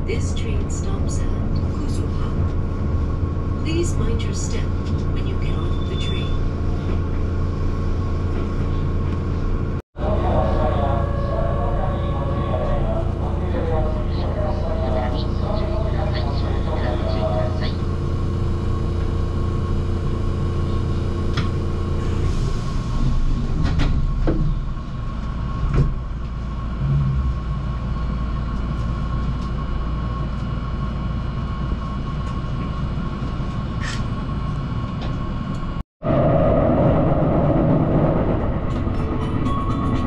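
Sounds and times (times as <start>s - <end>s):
low hum: 0.0s - 40.0s
train equipment humming: 0.0s - 40.0s
train running rumble: 0.0s - 40.0s.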